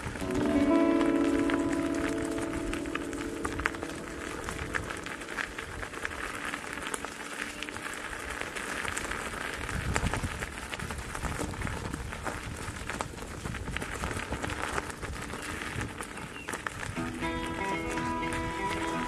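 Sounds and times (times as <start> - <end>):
tyre crackling over dirt trail: 0.0 - 19.0.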